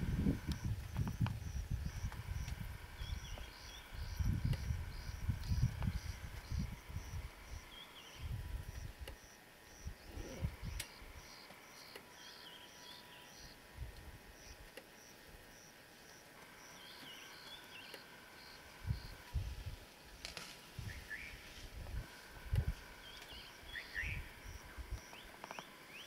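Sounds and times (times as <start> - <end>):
low wind rumble: 0.0 - 15.6, 16.5 - 25.9.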